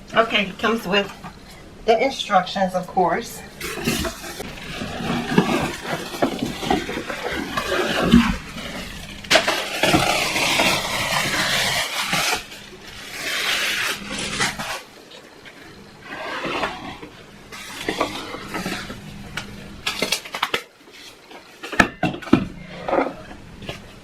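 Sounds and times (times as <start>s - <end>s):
packaging rustling and knocking: 3.6s - 15.7s, 16.3s - 24.0s.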